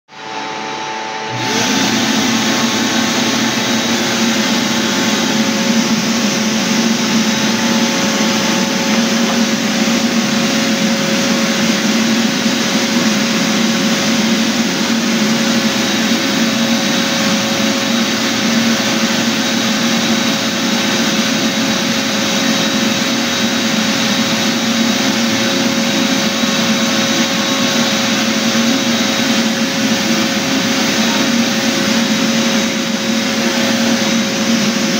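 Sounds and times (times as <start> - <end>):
floor sanding machine whirring: 0.2 - 34.9.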